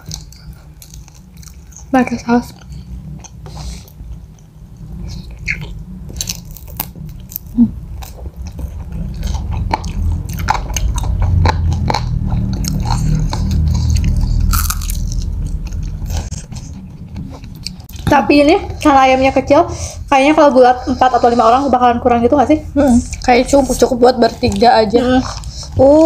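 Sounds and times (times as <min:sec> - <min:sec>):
chewing fried chicken: 0:00.0 - 0:19.2, 0:22.8 - 0:26.0.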